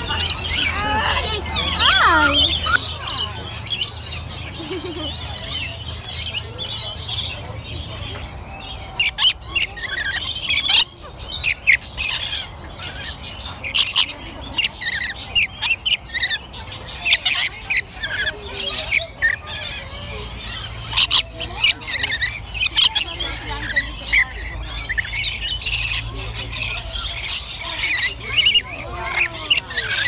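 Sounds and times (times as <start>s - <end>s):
lorikeets chattering: 0.0s - 30.0s
lorikeets screeching: 0.0s - 30.0s.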